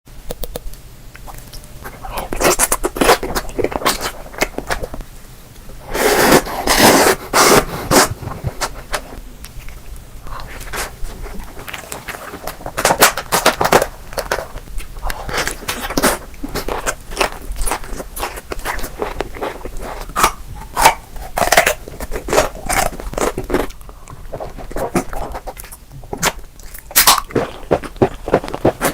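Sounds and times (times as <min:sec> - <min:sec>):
crunchy chewing and bites: 0:00.3 - 0:05.1, 0:05.9 - 0:28.9.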